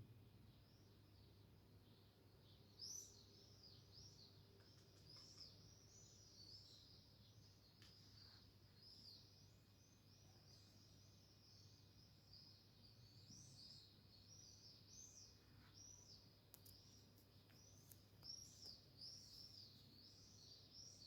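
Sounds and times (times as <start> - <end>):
faint birdsong chirps: 0.0 - 21.0.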